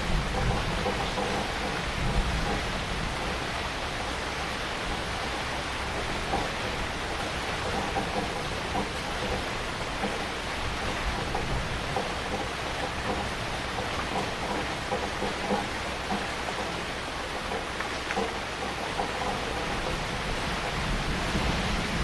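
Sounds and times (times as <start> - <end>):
heavy rain hiss: 0.0 - 22.0
raindrops spattering on a surface: 0.0 - 22.0.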